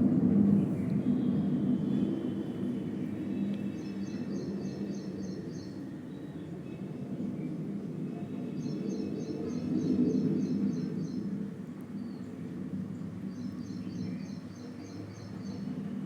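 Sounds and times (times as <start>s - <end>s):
airplane passing rumble: 0.0s - 16.0s
city background noise: 0.0s - 16.0s.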